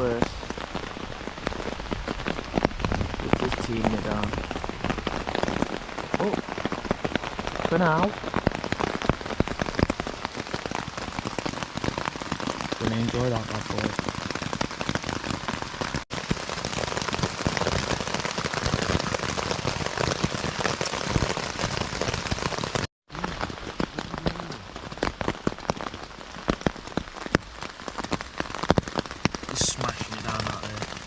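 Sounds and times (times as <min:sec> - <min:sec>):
heavy rain drumming on tent: 0:00.0 - 0:31.0.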